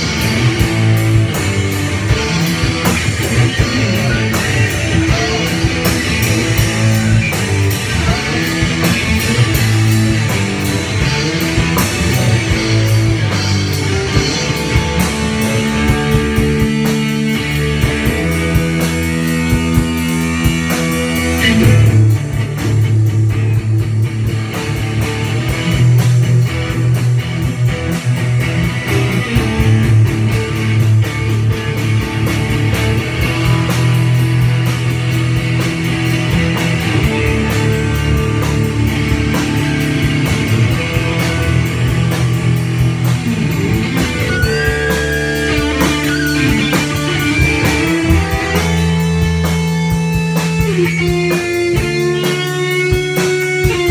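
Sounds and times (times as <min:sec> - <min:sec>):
drum kit drumming: 0:00.0 - 0:53.9
electric guitars playing: 0:00.0 - 0:53.9.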